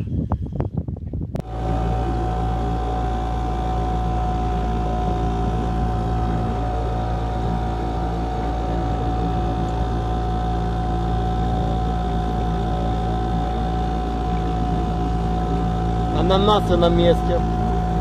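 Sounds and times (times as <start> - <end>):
boat motor running: 1.3 - 18.0.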